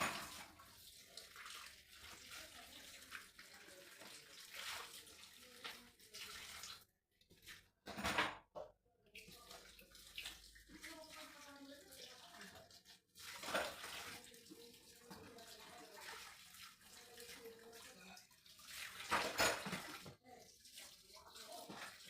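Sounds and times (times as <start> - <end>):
water running and splashing: 0.0 - 7.7, 9.1 - 22.0.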